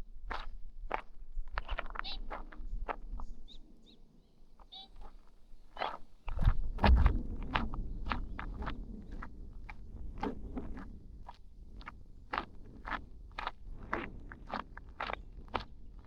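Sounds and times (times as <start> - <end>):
footsteps crunching on trail: 0.3 - 3.6, 4.6 - 16.0.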